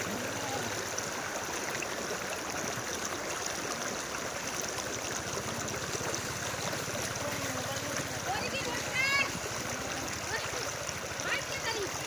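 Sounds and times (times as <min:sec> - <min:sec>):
floodwater rushing and sloshing: 0:00.0 - 0:12.0.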